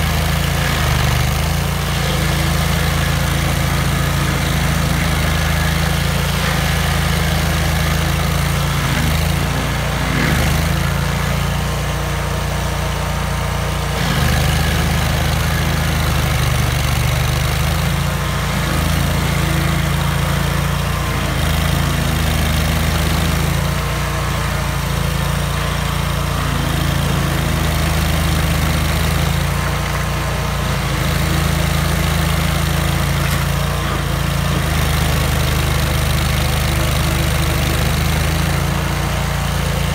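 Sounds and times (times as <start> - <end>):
cutter wheel grinding stump: 0.0 - 39.9
stump grinder engine running: 0.0 - 39.9.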